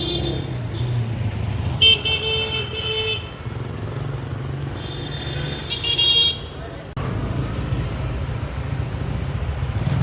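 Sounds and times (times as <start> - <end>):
street traffic hum: 0.0 - 10.0.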